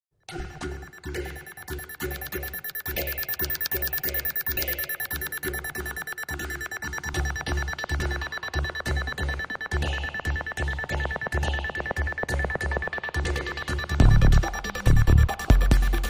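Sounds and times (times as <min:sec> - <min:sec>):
background music with steady beat: 0:00.3 - 0:16.0.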